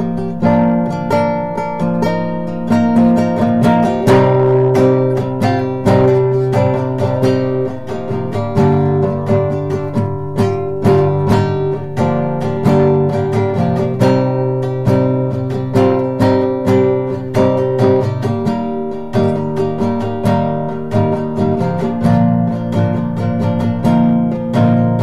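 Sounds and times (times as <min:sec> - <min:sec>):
solo guitar chords: 0:00.0 - 0:25.0.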